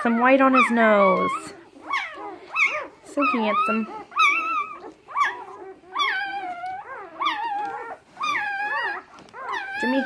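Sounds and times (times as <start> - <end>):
puppies whining and squealing: 0.0 - 10.0.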